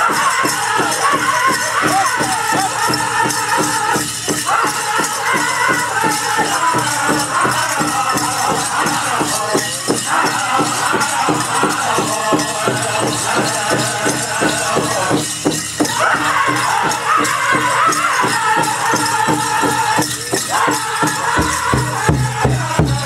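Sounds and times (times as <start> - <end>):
bells jingling: 0.0 - 23.0
big drum beating fast: 0.0 - 23.0
group singing high: 0.0 - 23.0.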